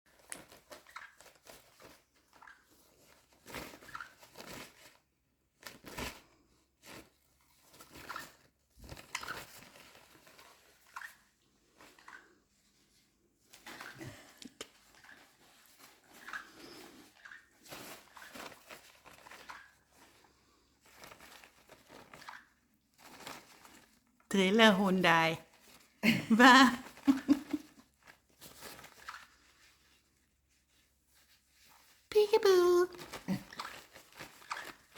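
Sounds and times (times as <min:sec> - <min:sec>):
rustling and crunching: 0:00.1 - 0:24.2, 0:26.7 - 0:32.1, 0:32.9 - 0:34.9.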